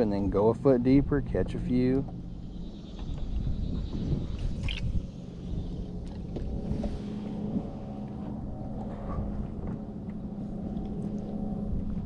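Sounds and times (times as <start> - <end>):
boat motor running: 0.0 - 12.0
wind rumbling on microphone: 0.0 - 12.0.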